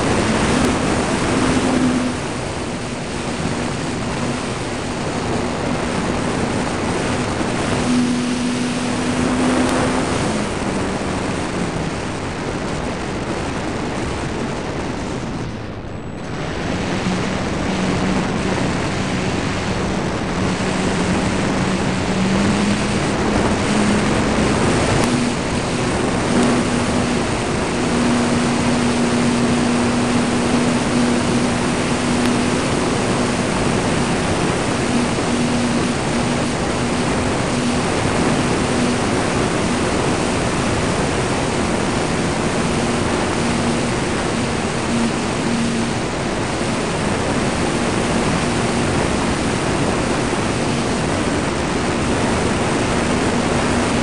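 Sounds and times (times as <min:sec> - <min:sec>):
electric motor and propeller humming: 0:00.0 - 0:54.0
wind rushing over microphone: 0:00.0 - 0:54.0.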